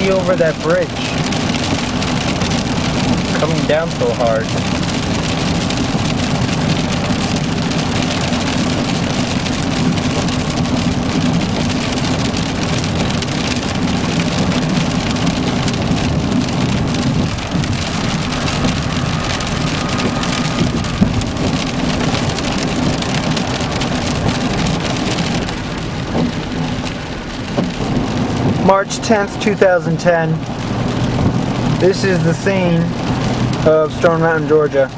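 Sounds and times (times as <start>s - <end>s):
car driving hum: 0.0s - 34.9s
heavy rain on car: 0.0s - 34.9s.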